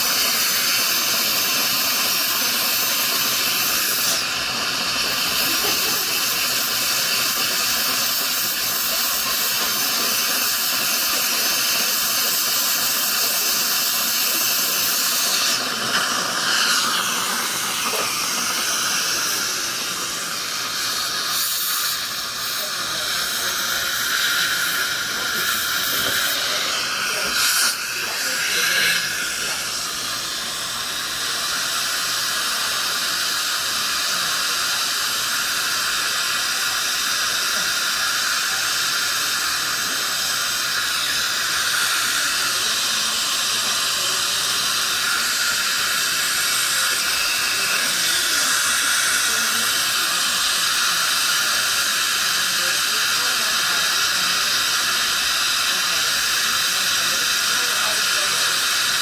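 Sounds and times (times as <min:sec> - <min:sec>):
dental handpiece hissing: 0:00.0 - 0:59.0.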